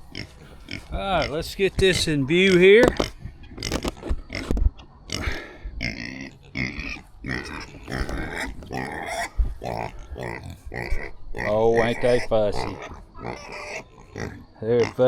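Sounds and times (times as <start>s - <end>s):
pigs grunting and oinking: 0.0s - 15.0s.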